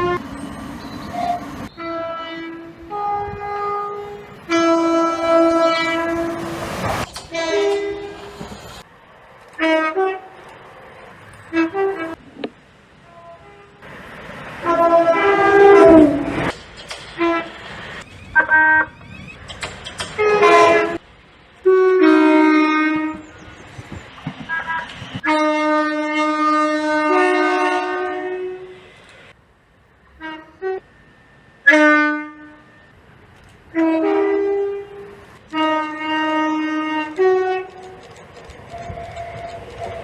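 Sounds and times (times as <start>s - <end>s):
train horns: 0.0s - 8.6s, 9.5s - 10.6s, 11.4s - 12.4s, 13.0s - 16.5s, 17.1s - 19.0s, 20.0s - 21.0s, 21.6s - 23.6s, 24.4s - 29.4s, 30.0s - 40.0s.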